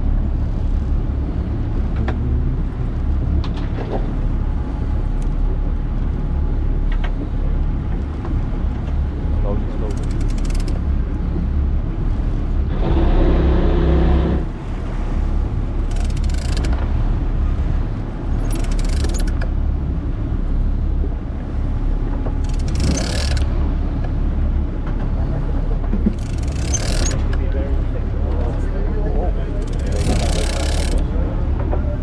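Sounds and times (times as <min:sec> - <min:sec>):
boat engines rumbling: 0:00.0 - 0:32.0.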